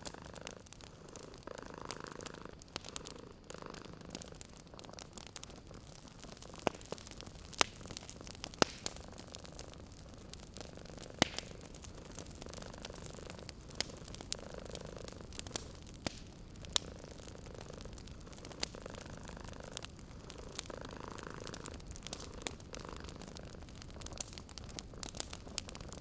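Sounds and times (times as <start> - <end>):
cat purring: 0.0 - 26.0
soft steady hiss: 0.0 - 26.0
wood fire crackling: 0.0 - 26.0.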